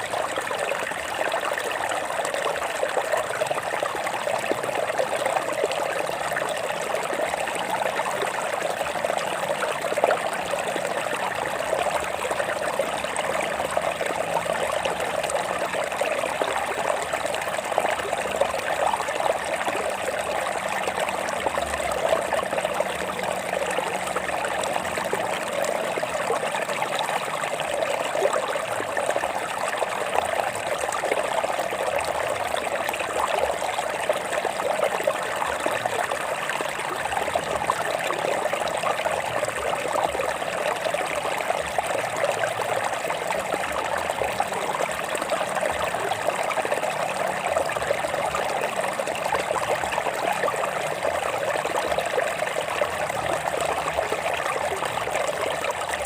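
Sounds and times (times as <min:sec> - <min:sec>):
stream water over rocks: 0:00.0 - 0:56.0.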